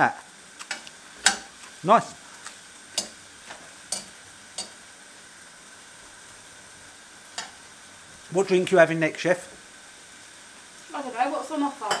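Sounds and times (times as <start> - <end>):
beef sizzling in a wok: 0.0 - 12.0.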